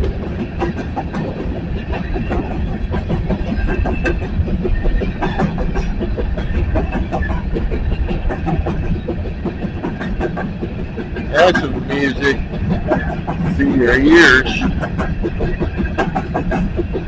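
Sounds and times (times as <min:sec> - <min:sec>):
low rumble of freight cars: 0:00.0 - 0:17.0
train wheels clicking over rail joints: 0:00.0 - 0:17.0.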